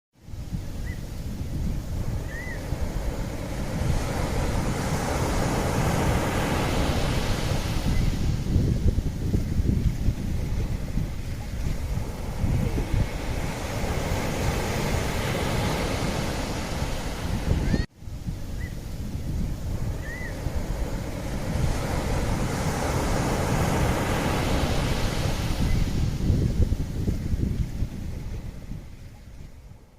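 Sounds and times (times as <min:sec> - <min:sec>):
sea waves washing ashore: 0:00.2 - 0:29.9
wind rumble on microphone: 0:00.2 - 0:29.9.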